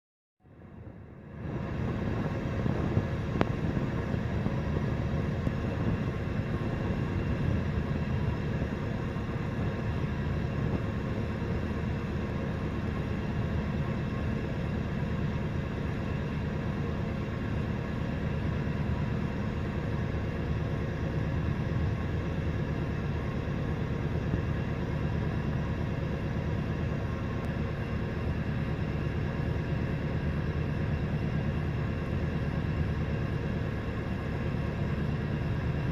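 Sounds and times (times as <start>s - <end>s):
low vehicle rumble: 0.4s - 35.9s.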